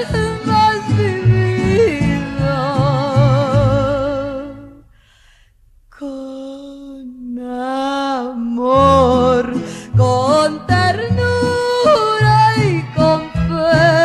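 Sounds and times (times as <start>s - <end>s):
bass: 0.0s - 14.0s.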